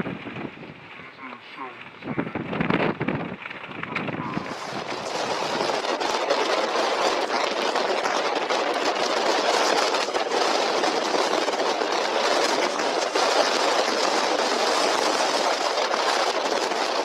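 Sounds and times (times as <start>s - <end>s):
strong wind rushing: 0.0s - 17.0s.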